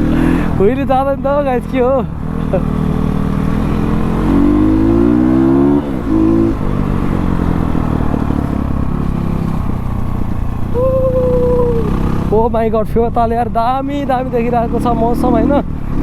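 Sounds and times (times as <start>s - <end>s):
dirt bike engine accelerating: 0.0s - 16.0s.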